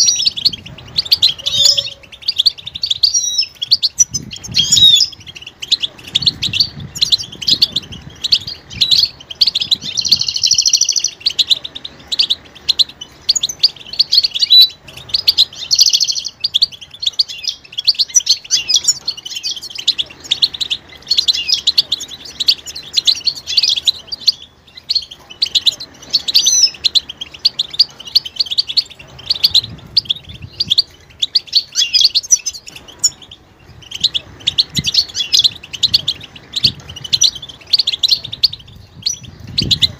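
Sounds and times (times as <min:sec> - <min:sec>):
finches chirping and twittering: 0:00.0 - 0:39.9.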